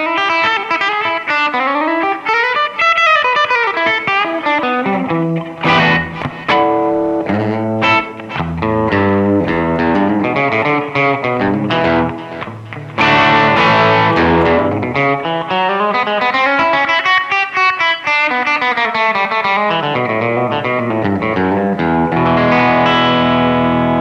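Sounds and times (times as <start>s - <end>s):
clean electric guitar: 0.0s - 24.0s.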